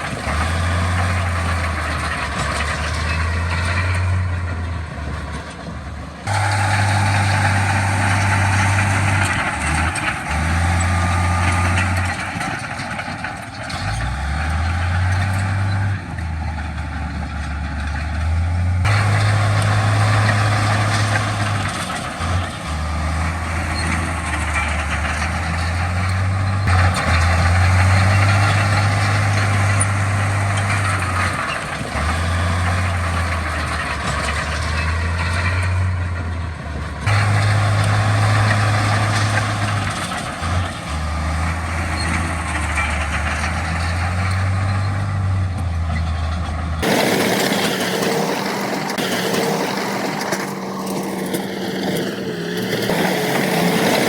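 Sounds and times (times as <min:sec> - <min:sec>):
diesel engine drone: 0:00.0 - 0:54.0
track or tyre noise: 0:00.0 - 0:54.0.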